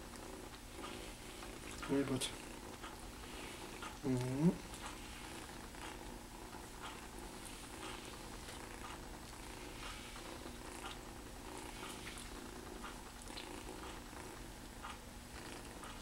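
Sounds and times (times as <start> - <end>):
grooming brush strokes through fur: 0.0 - 16.0
kitten purring: 0.0 - 16.0.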